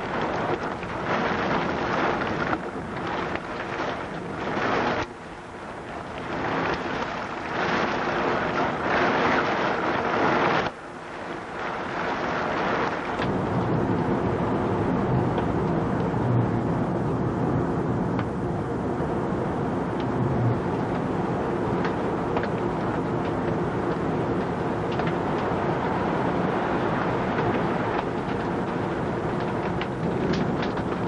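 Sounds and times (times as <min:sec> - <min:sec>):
storm winds and rain roaring: 0:00.0 - 0:31.0.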